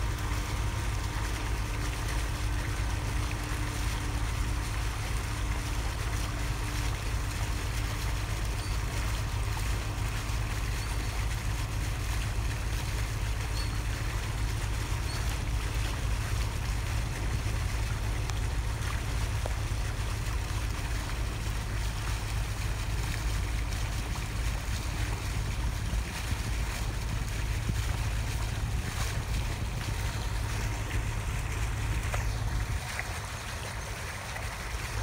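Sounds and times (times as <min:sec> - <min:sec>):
motorboat engine drone: 0:00.0 - 0:35.0
rushing water: 0:00.0 - 0:35.0.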